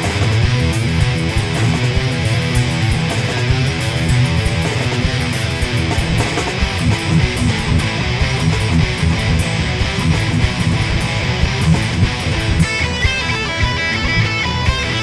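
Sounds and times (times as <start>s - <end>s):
bass guitar: 0.0s - 15.0s
drums: 0.0s - 15.0s
electric guitars strummed: 0.0s - 15.0s.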